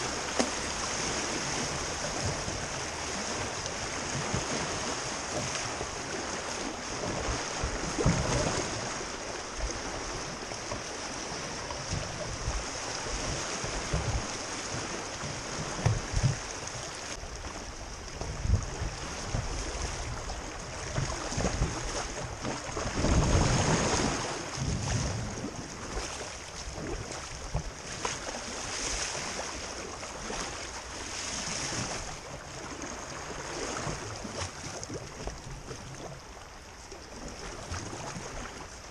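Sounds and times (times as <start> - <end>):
creek water rushing: 0.0 - 38.9
wind rumbling on microphone: 0.0 - 38.9.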